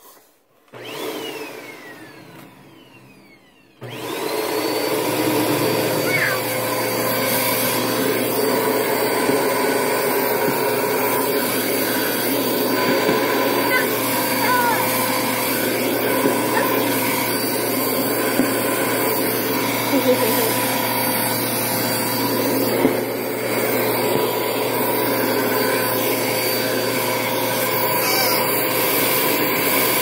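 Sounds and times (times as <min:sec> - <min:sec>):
vacuum cleaner whining: 0:00.0 - 0:30.0.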